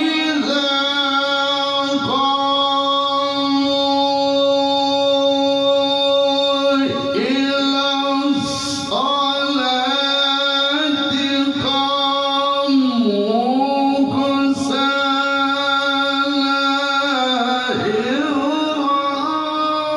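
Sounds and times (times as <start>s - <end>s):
man reciting melodically: 0.0s - 19.9s.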